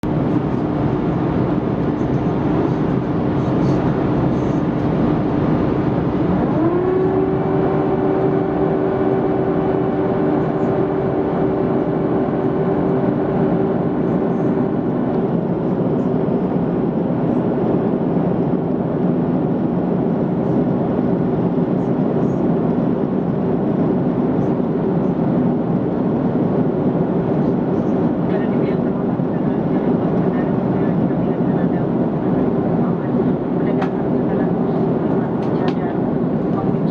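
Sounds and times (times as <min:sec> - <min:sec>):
aircraft cabin engine and airflow rush: 0:00.0 - 0:36.9.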